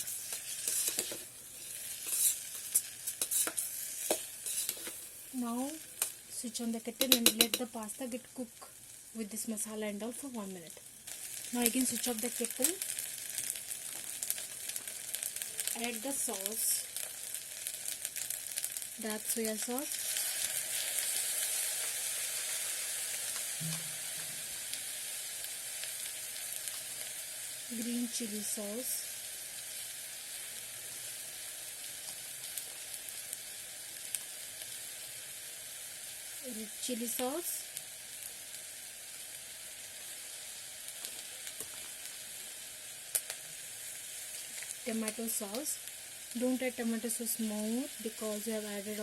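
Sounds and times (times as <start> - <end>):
food sizzling on hot base: 0.0 - 49.0.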